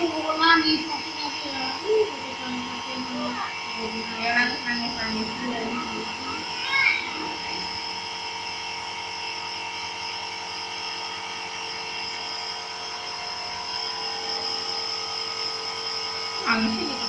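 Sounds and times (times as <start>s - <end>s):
nebulizer humming: 0.0s - 17.0s.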